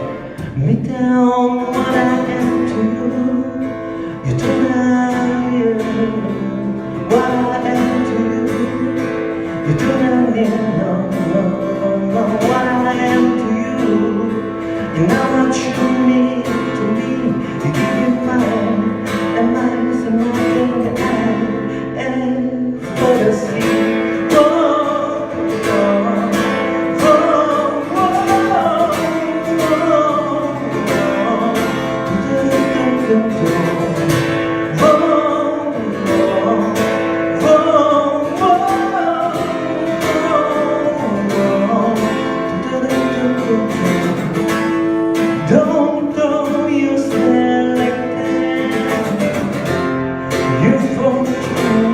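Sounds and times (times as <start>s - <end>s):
person singing wordless melody: 0.0s - 44.5s, 45.2s - 49.7s, 50.3s - 51.9s
acoustic guitar strumming: 0.0s - 51.9s.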